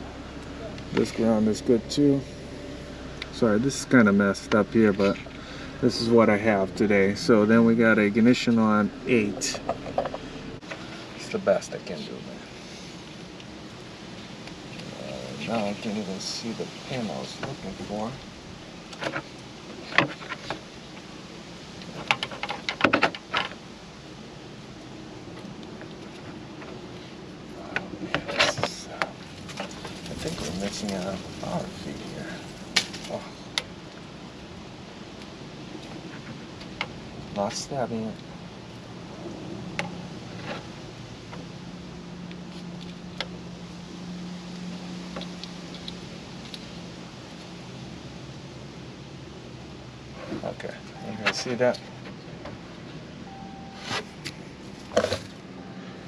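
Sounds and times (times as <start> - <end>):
steady low hum: 0.0 - 22.2, 23.2 - 56.0.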